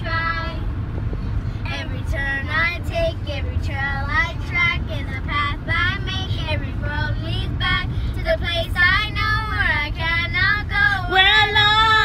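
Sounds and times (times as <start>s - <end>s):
car rumble: 0.0s - 12.0s.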